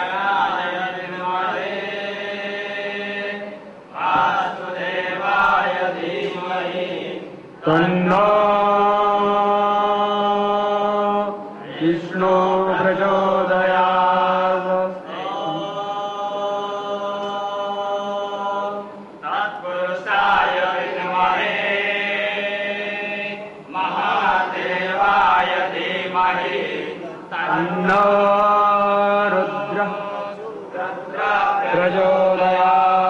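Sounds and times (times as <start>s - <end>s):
mantras chanted: 0.0s - 33.0s
steady low hum: 0.0s - 33.0s.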